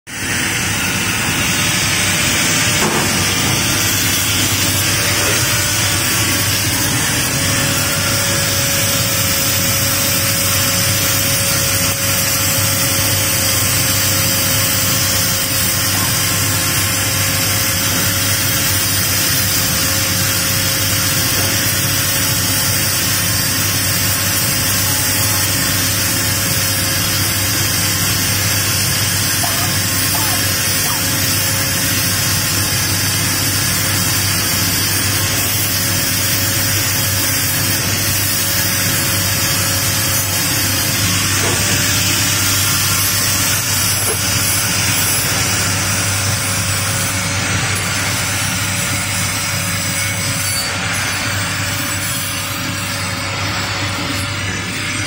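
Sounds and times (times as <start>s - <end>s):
angle grinder grinding steel: 0.1s - 55.0s.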